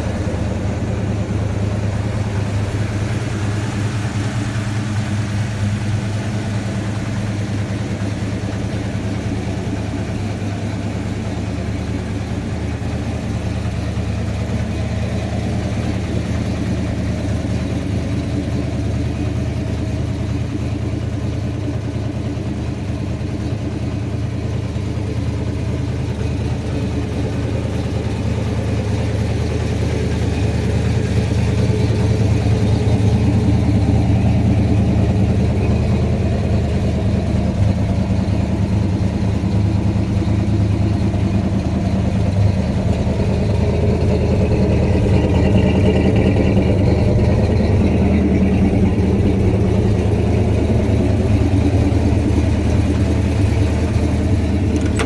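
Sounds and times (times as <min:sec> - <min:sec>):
engine idling rumble: 0:00.0 - 0:55.0.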